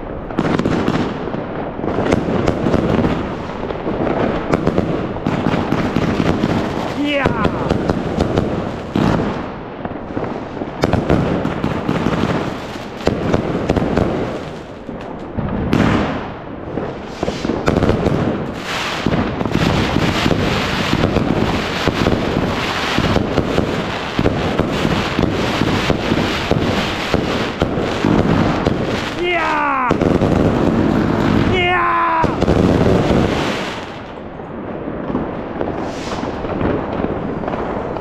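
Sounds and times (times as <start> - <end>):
fireworks cracks and bangs: 0.0 - 38.0.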